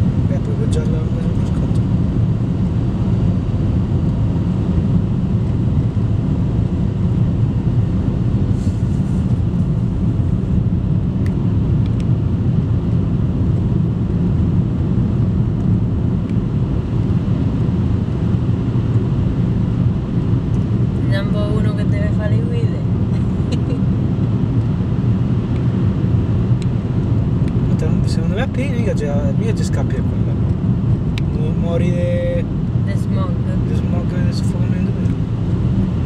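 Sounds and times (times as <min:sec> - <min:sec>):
engine and tyre rumble: 0:00.0 - 0:36.0.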